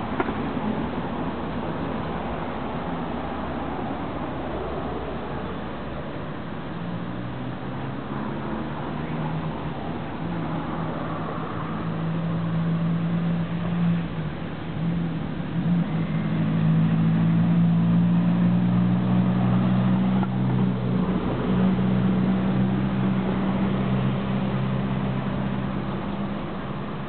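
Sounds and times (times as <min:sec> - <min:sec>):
street noise: 0:00.0 - 0:27.0.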